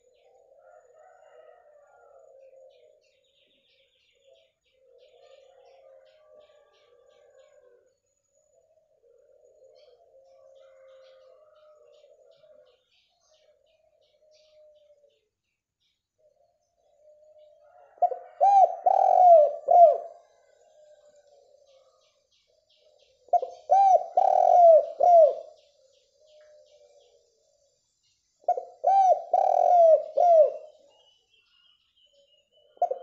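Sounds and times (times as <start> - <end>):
dove cooing: 0.0 - 3.3, 4.1 - 7.9, 8.5 - 15.2, 16.2 - 27.2, 28.5 - 31.0, 32.6 - 33.0.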